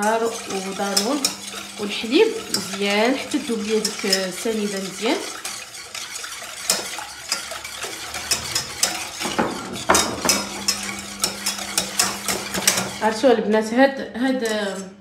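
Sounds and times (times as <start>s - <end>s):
whisk scraping metal pan: 0.0s - 13.4s, 14.3s - 15.0s.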